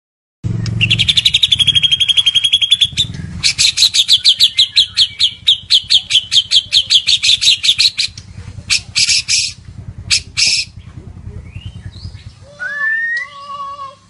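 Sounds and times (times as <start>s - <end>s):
bird singing sharp slurred notes: 0.5s - 13.4s
harsh rasping bird notes: 0.5s - 14.0s.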